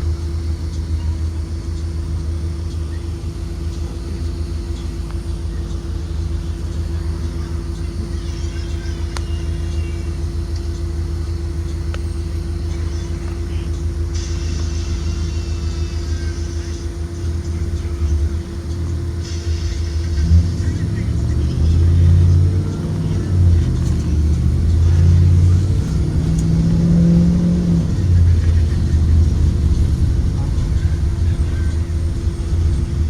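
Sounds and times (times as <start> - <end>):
bus engine drone: 0.0 - 33.0
constant hum: 0.0 - 33.0
road rumble: 0.0 - 33.0.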